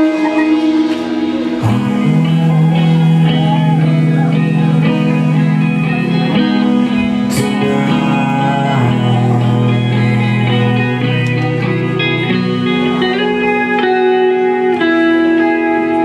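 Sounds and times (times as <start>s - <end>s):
bass notes: 0.0s - 16.0s
distorted electric guitar chords: 0.0s - 16.0s.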